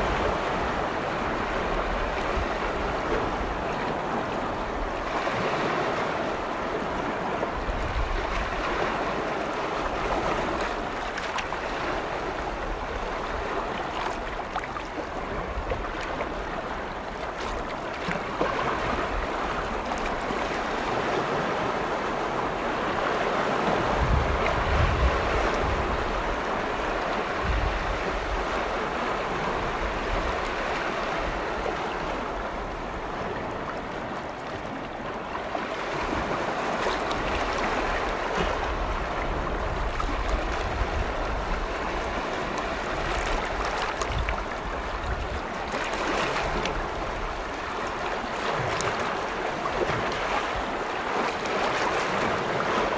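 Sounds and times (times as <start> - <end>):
wind gusts on microphone: 0.0 - 14.4, 18.7 - 52.9
waves washing in: 0.0 - 52.9.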